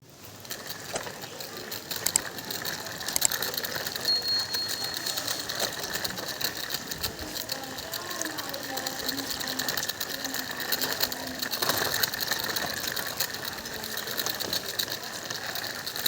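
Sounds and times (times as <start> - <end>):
toy gears clicking: 0.1 - 16.0
high steady tone: 1.4 - 15.8.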